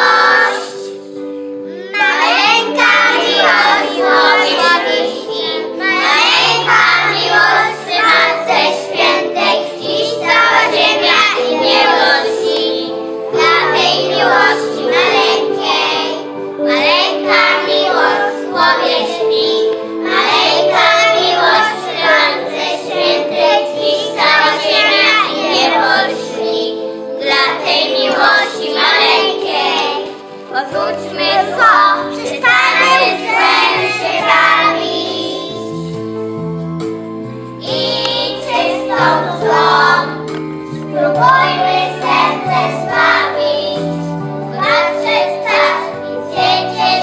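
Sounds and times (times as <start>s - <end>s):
children singing: 0.0s - 1.0s, 1.9s - 35.7s, 37.6s - 47.0s
instrumental backing music: 0.0s - 47.0s.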